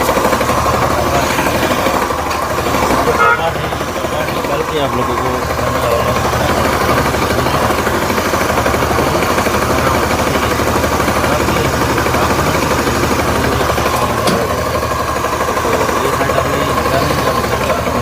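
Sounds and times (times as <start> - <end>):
scooter engine idling with knocking: 0.0 - 18.0.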